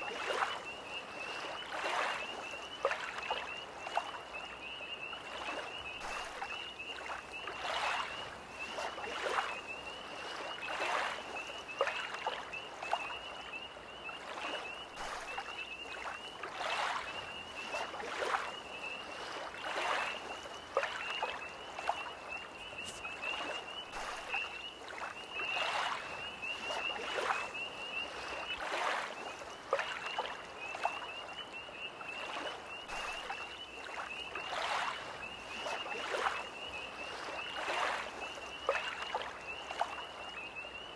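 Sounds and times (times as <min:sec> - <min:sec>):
lake waves lapping on shore: 0:00.0 - 0:13.2, 0:14.0 - 0:40.9
tree frogs trilling: 0:00.0 - 0:40.9.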